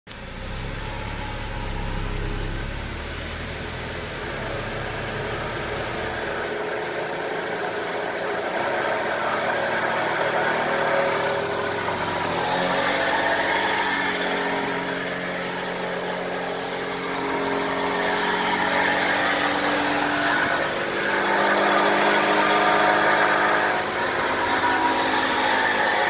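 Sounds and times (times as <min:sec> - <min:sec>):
wheel bearing droning: 0:00.1 - 0:26.0.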